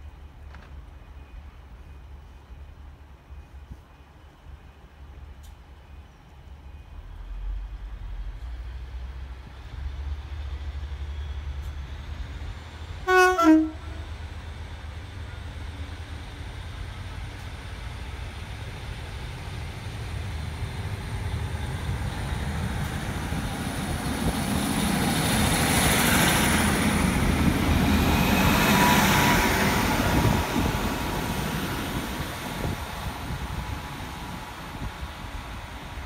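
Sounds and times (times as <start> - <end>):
train passing rumble: 0.0 - 36.0.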